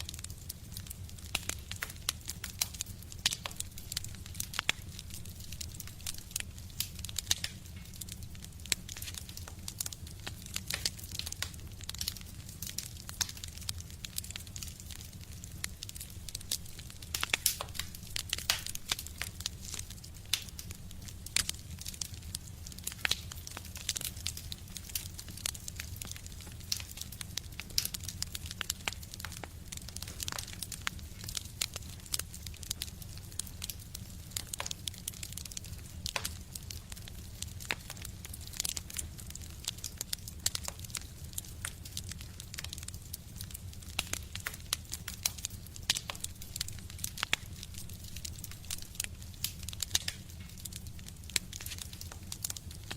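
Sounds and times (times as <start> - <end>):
fire crackling in a stove: 0.0 - 52.9.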